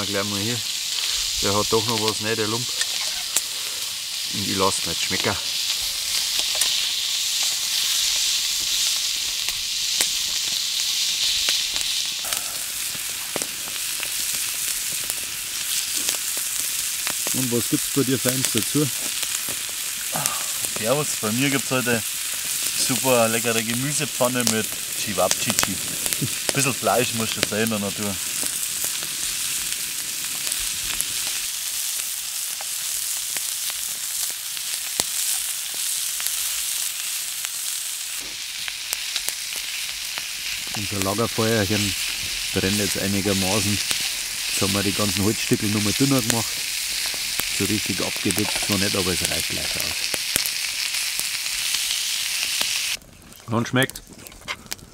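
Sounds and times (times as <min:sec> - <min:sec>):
vegetables sizzling in a pan: 0:00.0 - 0:53.3
sharp pops and crackles: 0:00.0 - 0:54.9.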